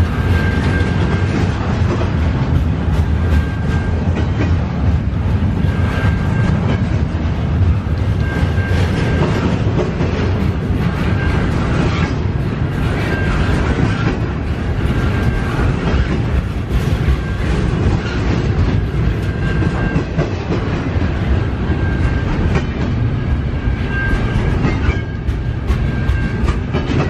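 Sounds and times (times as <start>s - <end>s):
train wheels rumbling: 0.0s - 27.0s
wheels clacking on rails: 0.0s - 27.0s.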